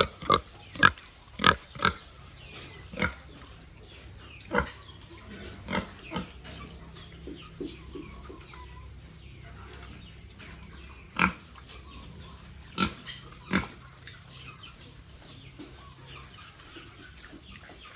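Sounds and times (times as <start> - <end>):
pigs grunting and squealing: 0.0 - 17.9
steady low hum: 0.9 - 16.2.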